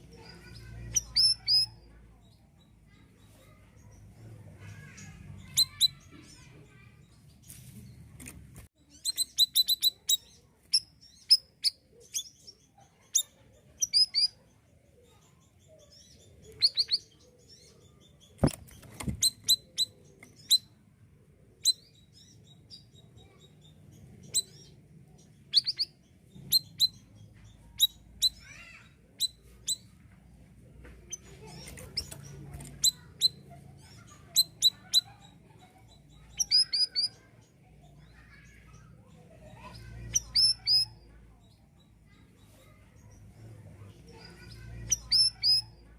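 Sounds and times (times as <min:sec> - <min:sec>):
songbird chirping: 0:00.0 - 0:45.9.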